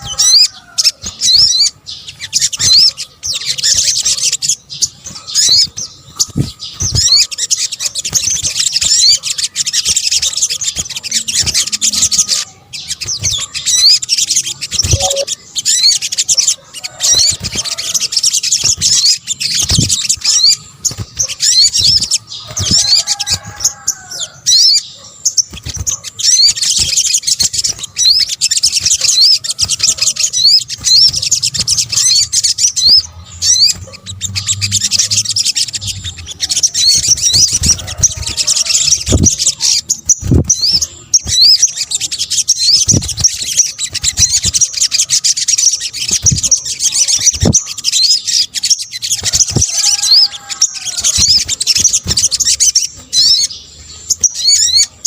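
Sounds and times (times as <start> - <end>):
small bird chirping song: 0.0 - 55.0.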